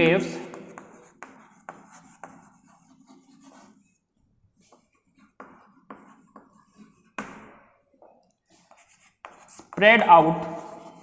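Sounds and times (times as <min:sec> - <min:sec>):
chalk scratching on blackboard: 0:00.0 - 0:07.4, 0:08.5 - 0:11.0.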